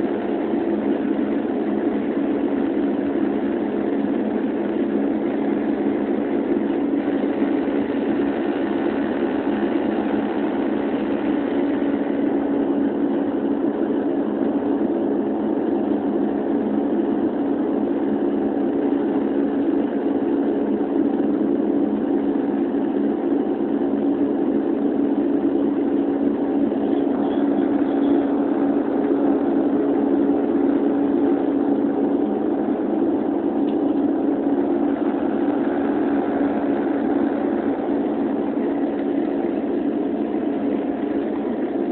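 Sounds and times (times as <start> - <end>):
turboprop engines droning: 0.0 - 41.9.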